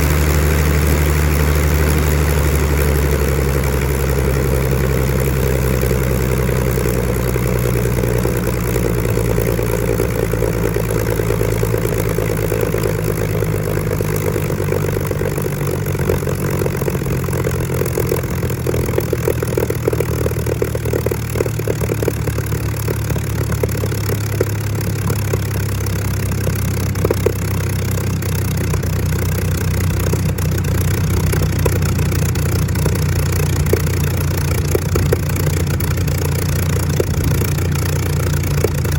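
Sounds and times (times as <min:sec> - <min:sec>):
aircraft piston engine running: 0:00.0 - 0:38.9.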